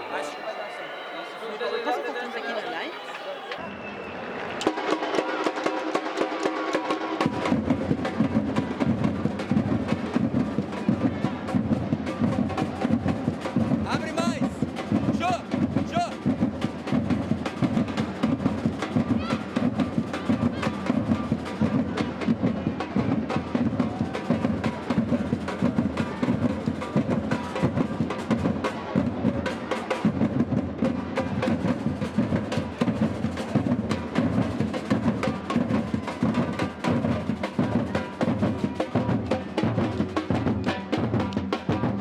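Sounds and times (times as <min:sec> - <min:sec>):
samba drum ensemble: 0:00.0 - 0:42.0.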